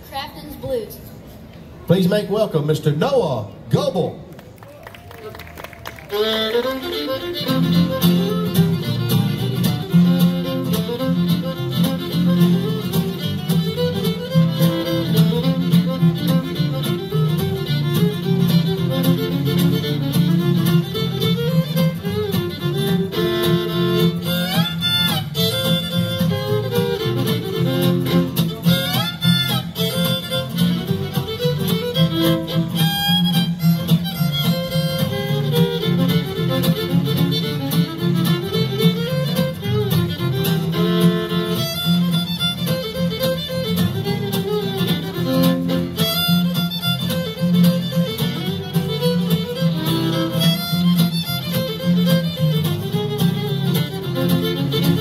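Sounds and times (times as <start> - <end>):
fiddle playing bluegrass tune: 5.9 - 55.0
strummed acoustic guitars: 6.2 - 55.0.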